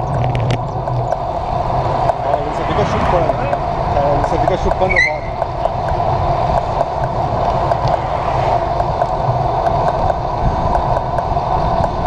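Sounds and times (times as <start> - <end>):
tyres rumbling on asphalt: 0.0 - 12.0
wind rushing over microphone: 0.0 - 12.0.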